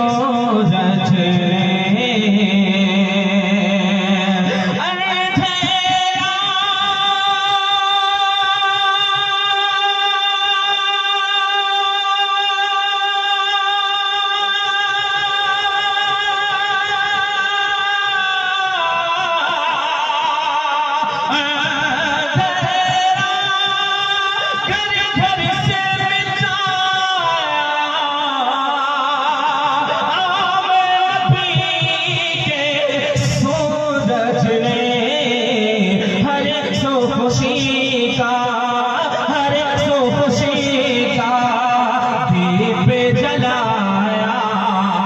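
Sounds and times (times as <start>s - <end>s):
wordless devotional singing: 0.0s - 45.0s.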